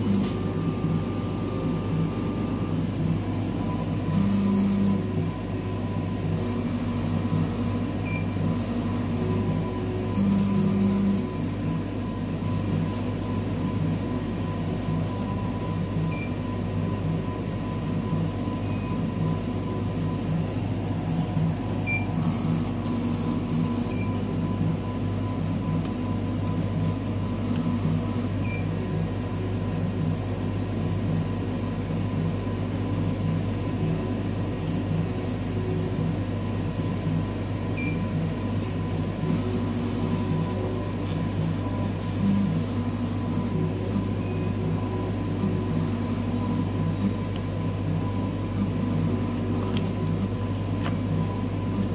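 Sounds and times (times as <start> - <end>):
machine hum with low pulsing: 0.0 - 51.9.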